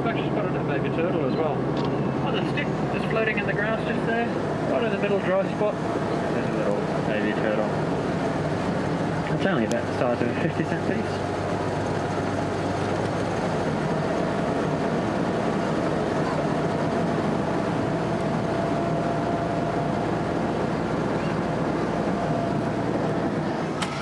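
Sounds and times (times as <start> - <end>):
amphibious vehicle engine droning: 0.0 - 24.0.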